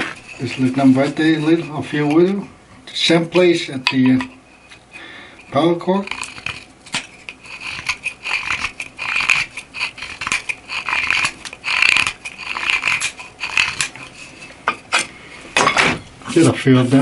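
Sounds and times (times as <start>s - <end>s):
knife scraping antler: 0.0s - 2.5s, 3.2s - 15.1s.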